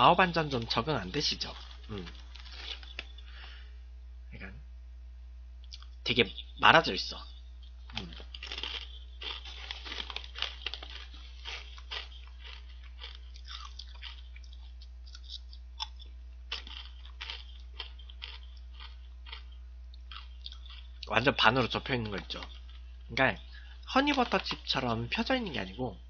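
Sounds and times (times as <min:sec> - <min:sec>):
person crunching potato chips: 0:00.2 - 0:03.6, 0:07.6 - 0:25.8.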